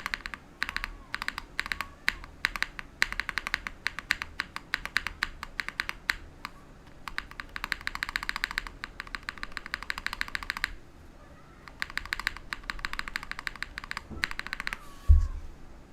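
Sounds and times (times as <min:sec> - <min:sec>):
mechanical keyboard typing: 0:00.0 - 0:10.8, 0:11.6 - 0:14.8.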